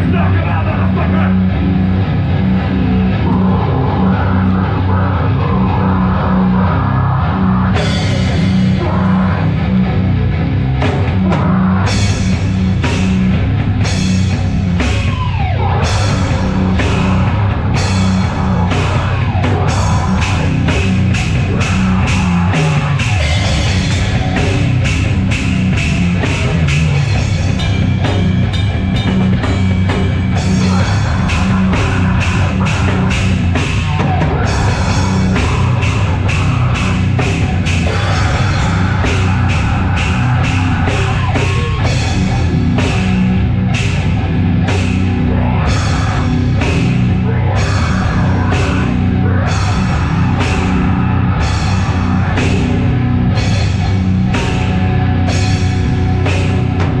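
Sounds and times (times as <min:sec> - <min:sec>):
heavy metal band playing: 0:00.0 - 0:57.0
pounding drum kit: 0:00.0 - 0:57.0.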